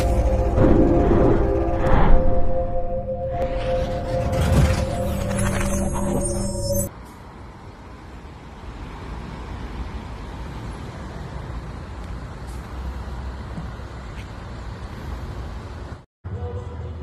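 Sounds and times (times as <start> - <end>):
cars passing: 0.0 - 17.0.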